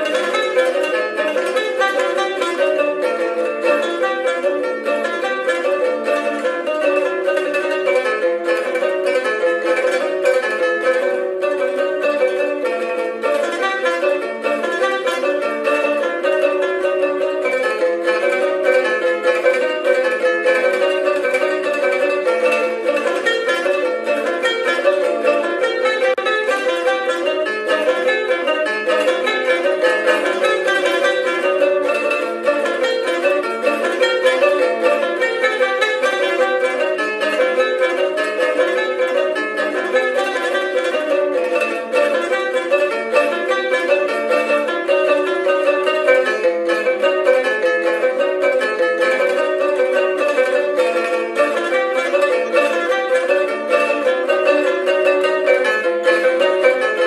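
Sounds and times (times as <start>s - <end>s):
strummed small guitar chords: 0.0s - 57.0s.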